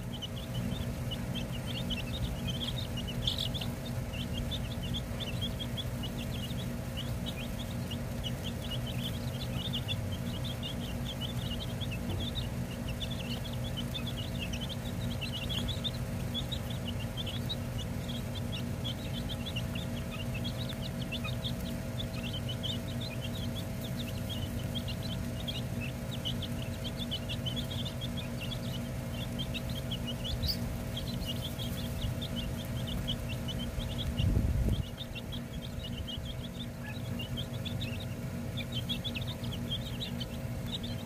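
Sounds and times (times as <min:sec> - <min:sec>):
baby chicks peeping: 0:00.0 - 0:41.0
low steady hum: 0:00.0 - 0:41.0.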